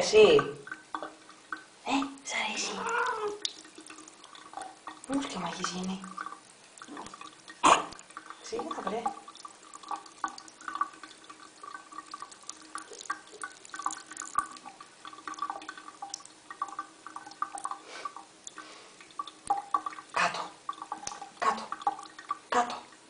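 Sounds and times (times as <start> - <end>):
water dripping and trickling: 0.0 - 23.0
water splashes: 0.0 - 23.0.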